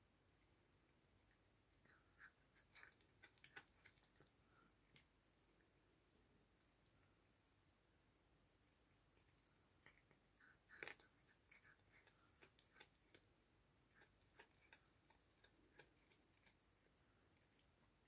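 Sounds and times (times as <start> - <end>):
faint irregular clicks: 0.4 - 7.7, 8.6 - 18.0.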